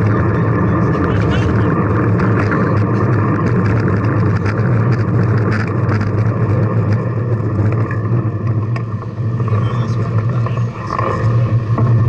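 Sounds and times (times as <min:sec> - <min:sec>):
low rumble on microphone: 0:00.0 - 0:12.0
wind and road noise: 0:00.0 - 0:12.0.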